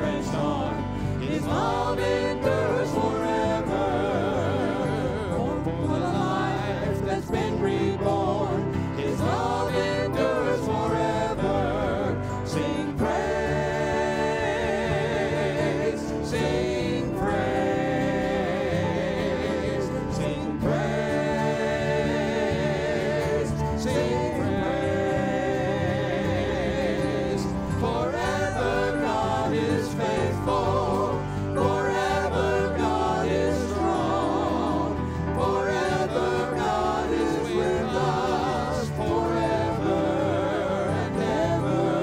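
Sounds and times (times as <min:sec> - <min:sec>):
many voices singing together: 0:00.0 - 0:42.0.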